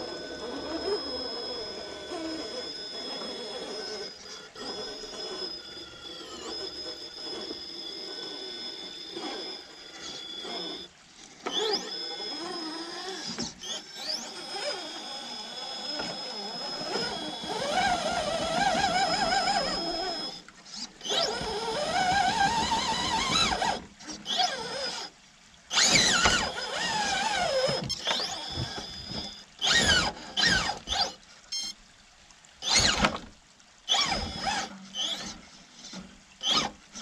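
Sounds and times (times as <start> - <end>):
electric motor whining: 0.0 - 31.7, 32.6 - 33.2, 33.9 - 37.0.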